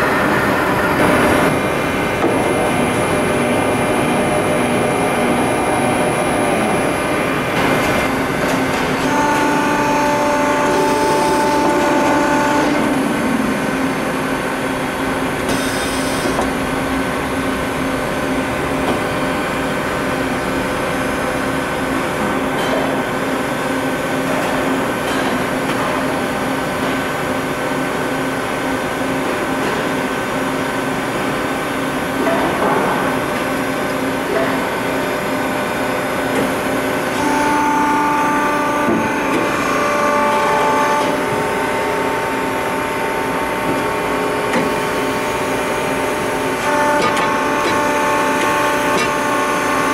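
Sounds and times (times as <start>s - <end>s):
drilling machine humming and whining: 0.0s - 49.9s.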